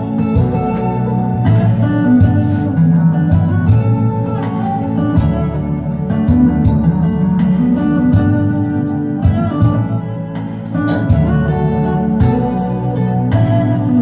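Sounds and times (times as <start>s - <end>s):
guitar over a steady beat: 0.0s - 14.0s.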